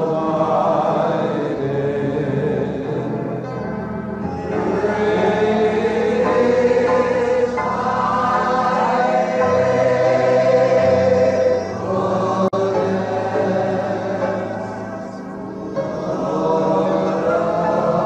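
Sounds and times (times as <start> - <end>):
group singing worship song: 0.0 - 3.4, 4.3 - 18.0
held low accompanying notes: 0.0 - 18.0.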